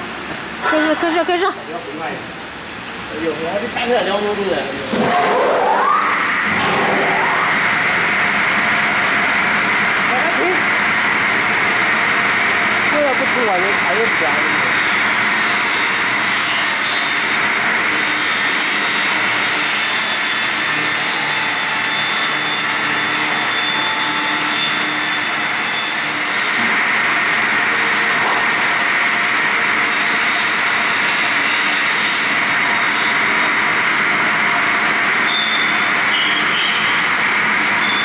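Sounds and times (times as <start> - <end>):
circular saw cutting log: 5.0 - 38.0.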